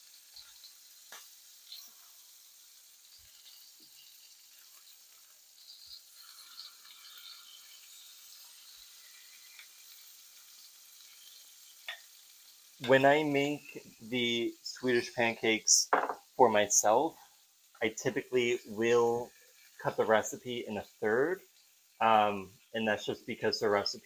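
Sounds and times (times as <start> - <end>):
pancakes sizzling in a pan: 0.0 - 24.0.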